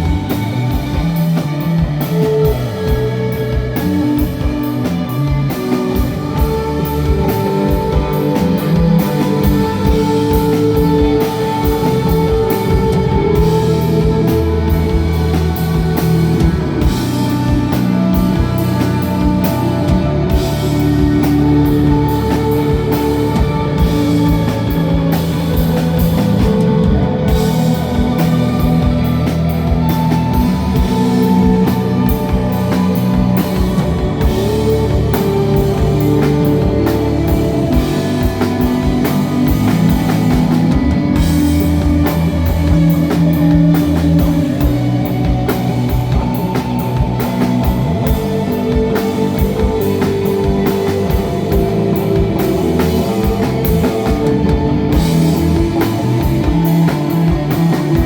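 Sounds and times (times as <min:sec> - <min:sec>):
drum kit steady beat: 0:00.0 - 0:58.0
electric guitar sustained notes: 0:00.0 - 0:58.0.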